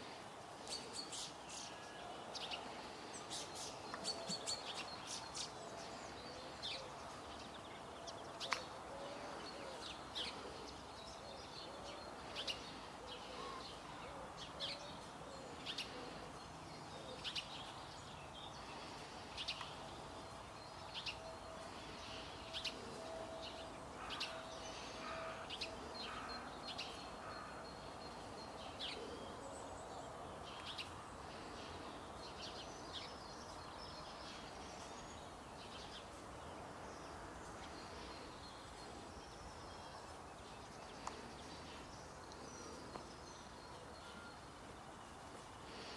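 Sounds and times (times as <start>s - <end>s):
faint outdoor background noise: 0.0s - 45.9s
small birds chirping: 0.0s - 45.9s.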